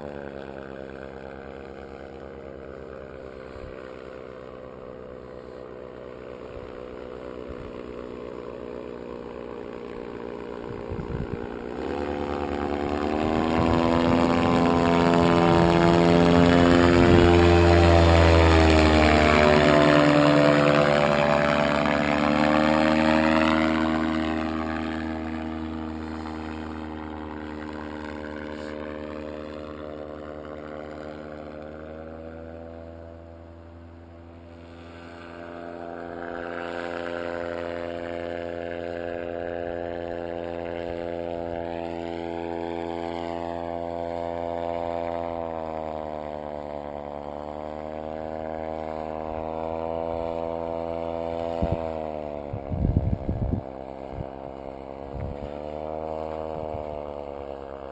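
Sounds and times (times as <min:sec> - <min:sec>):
paraglider engine droning past: 0:00.0 - 0:57.9.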